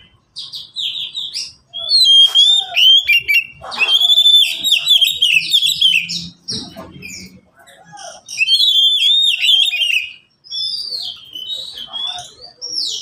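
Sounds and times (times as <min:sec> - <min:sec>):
birds singing whistled phrases: 0:00.0 - 0:13.0.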